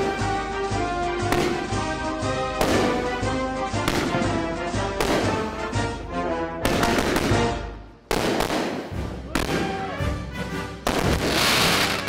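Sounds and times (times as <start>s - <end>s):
fireworks bangs: 0.0s - 5.8s, 6.6s - 9.9s, 10.8s - 12.0s
background music: 0.0s - 12.0s.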